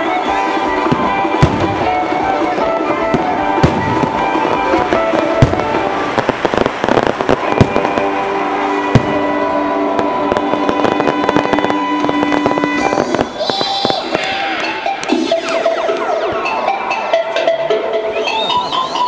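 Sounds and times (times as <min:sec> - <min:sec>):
fireworks bangs: 0:00.0 - 0:18.7
fireworks crackling: 0:00.0 - 0:19.0
music: 0:00.0 - 0:19.0.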